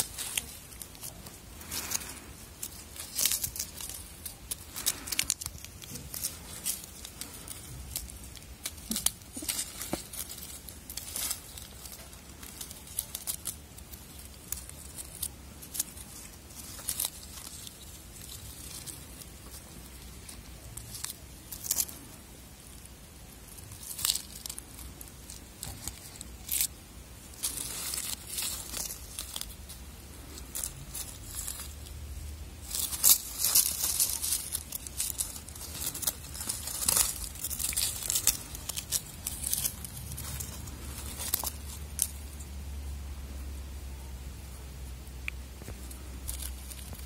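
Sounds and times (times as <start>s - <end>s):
plastic wrapper crinkling: 0.0s - 42.7s, 45.2s - 47.0s
dry leaves rustling: 0.0s - 47.0s.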